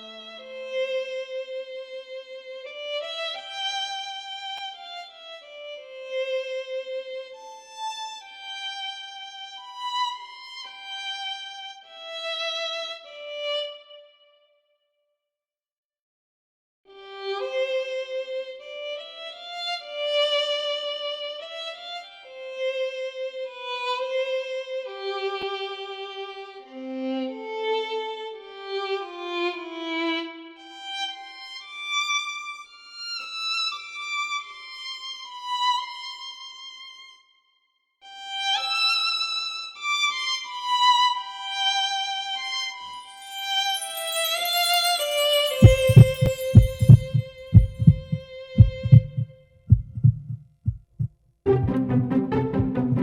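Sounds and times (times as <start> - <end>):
violin playing slow melody: 0.0 - 14.3, 16.9 - 37.3, 38.0 - 49.3, 51.5 - 53.0.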